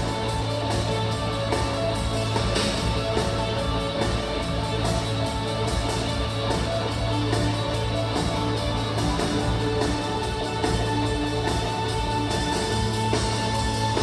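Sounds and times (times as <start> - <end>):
live band playing instrumental: 0.0 - 14.0.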